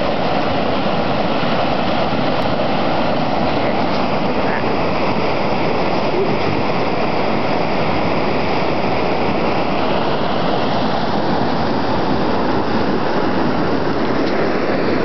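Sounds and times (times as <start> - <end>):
turbulent creek water rushing: 0.0 - 15.0.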